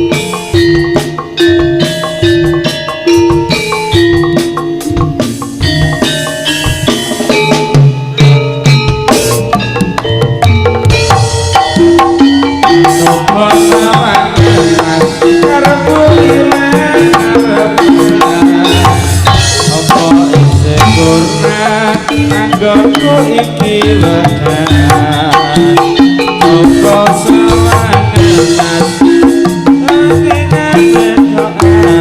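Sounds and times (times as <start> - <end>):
hand drums playing a busy beat: 0.0 - 32.0
sustained melodic instruments: 0.0 - 32.0.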